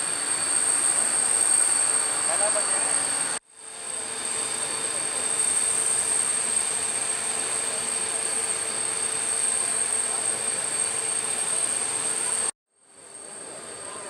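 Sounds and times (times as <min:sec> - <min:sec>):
helicopter turbine whine: 0:00.0 - 0:14.0.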